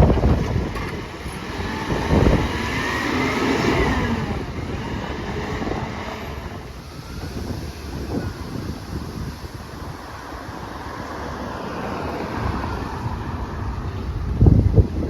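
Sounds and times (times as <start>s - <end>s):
truck engine surging: 0.0s - 15.0s.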